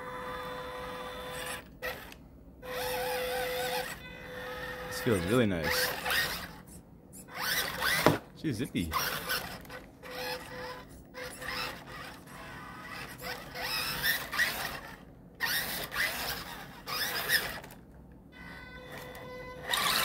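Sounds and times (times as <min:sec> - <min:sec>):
electric motor whining: 0:00.0 - 0:08.2, 0:08.8 - 0:17.8, 0:18.4 - 0:20.0.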